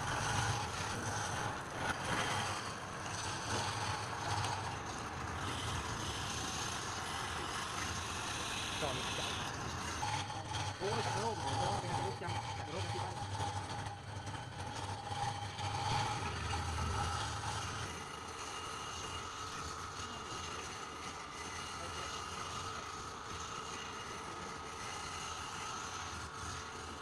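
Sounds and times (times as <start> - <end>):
wood lathe motor humming: 0.0 - 27.0.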